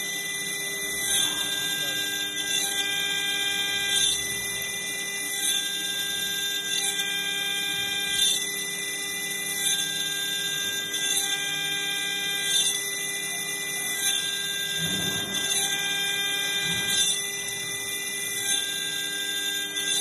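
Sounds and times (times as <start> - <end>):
router spindle whining: 0.0 - 20.0.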